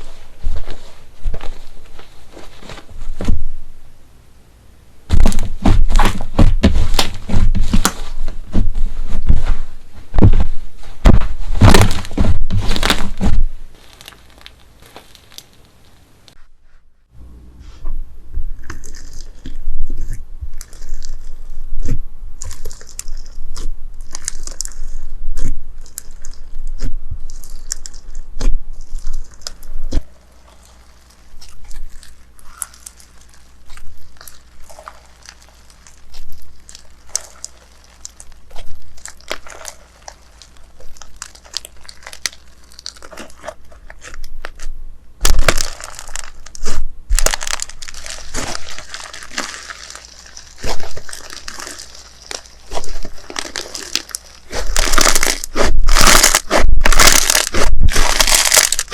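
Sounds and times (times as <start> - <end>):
loud crunches: 5.1 - 16.4, 18.6 - 58.9
slime crackling and popping: 5.1 - 16.4, 18.6 - 58.9.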